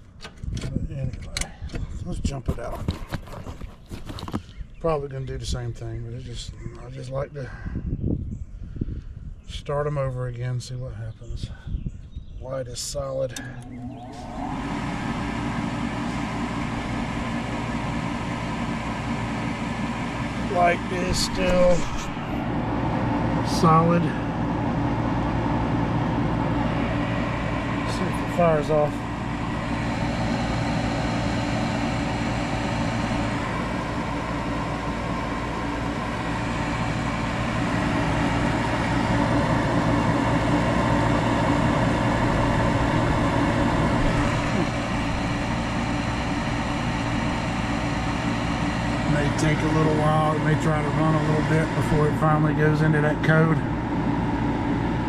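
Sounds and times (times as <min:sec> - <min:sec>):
gas burners: 0:00.0 - 0:07.2, 0:12.7 - 0:55.0
inducer motor hum and air rush: 0:03.8 - 0:09.5, 0:11.3 - 0:55.0.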